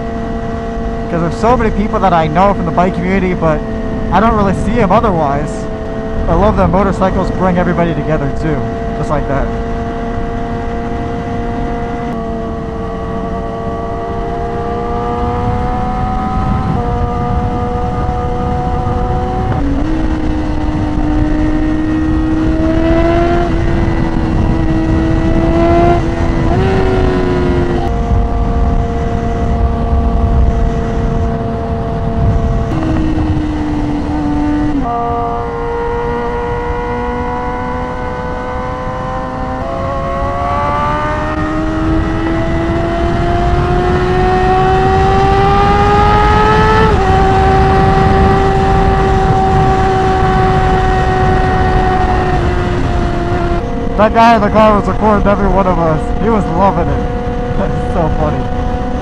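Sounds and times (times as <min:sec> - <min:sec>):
sport bike engine accelerating: 0:00.0 - 0:59.0
wind rumble: 0:00.0 - 0:59.0.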